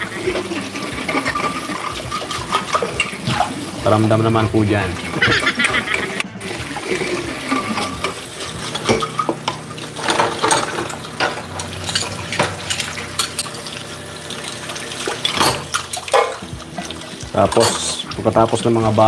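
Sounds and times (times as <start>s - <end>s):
dishes and cutlery clinking: 0.0s - 3.8s, 5.0s - 19.0s
tap water running into sink: 0.0s - 19.0s.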